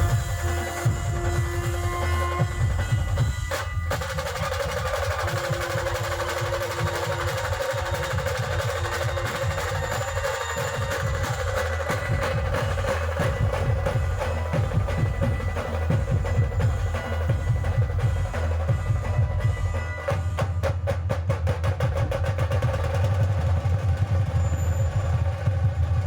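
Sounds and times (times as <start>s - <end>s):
drum band playing fast rhythm: 0.0s - 26.0s.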